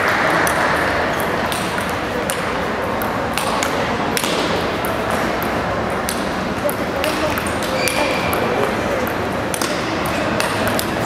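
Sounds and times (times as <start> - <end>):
murmur of crowd in hall: 0.0 - 11.0
table tennis ball clicking: 1.2 - 11.0.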